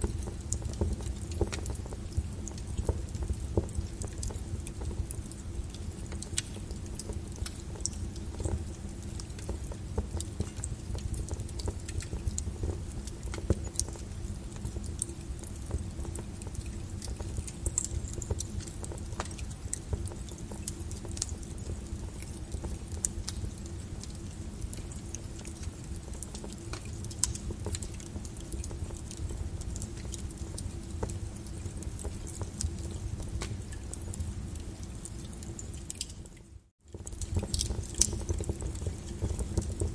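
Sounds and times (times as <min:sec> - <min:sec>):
low rumble of flames: 0:00.0 - 0:39.9
wood crackling and popping: 0:00.0 - 0:39.9.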